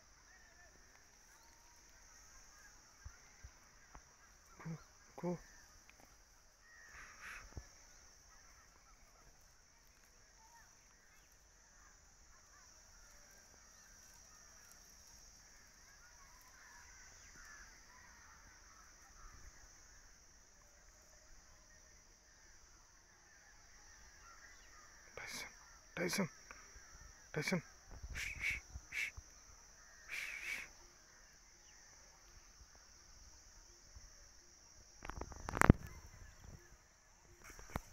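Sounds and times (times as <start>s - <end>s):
faint bird calls: 0.0s - 37.9s
high-pitched insect chorus: 0.0s - 37.9s.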